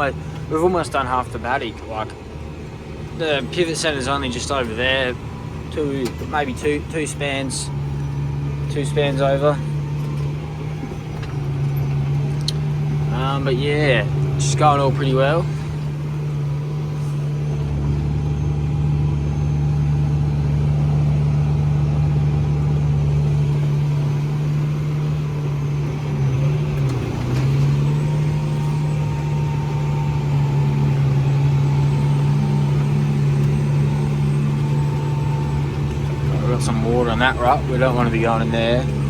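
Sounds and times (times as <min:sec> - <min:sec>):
tractor diesel engine under load: 0:00.0 - 0:39.0.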